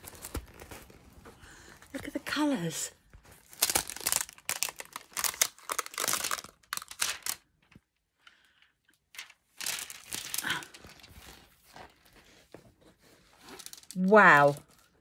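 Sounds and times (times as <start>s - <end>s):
plastic film crinkling: 0.0s - 2.4s, 3.1s - 7.8s, 9.1s - 12.4s, 13.0s - 15.0s.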